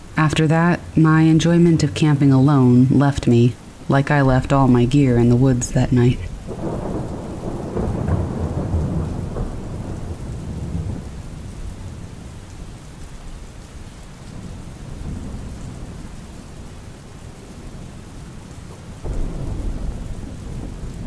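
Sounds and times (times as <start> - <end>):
thunder rumbling: 0.0 - 13.5, 14.3 - 21.0
steady rain: 0.0 - 21.0.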